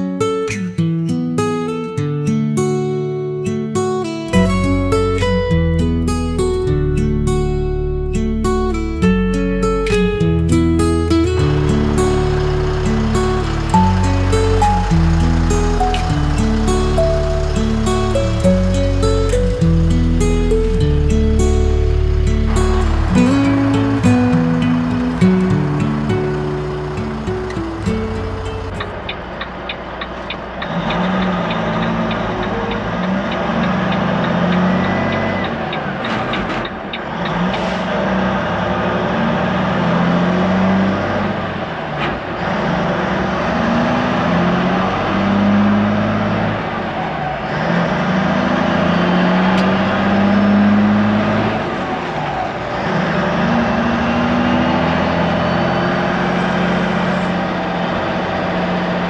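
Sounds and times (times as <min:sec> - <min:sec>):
diesel truck engine: 0:04.4 - 0:59.0
road noise: 0:09.6 - 0:59.0.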